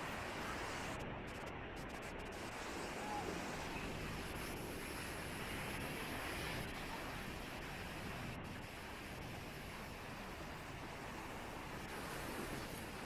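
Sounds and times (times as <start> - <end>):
surf breaking on sand: 2.3 - 13.0.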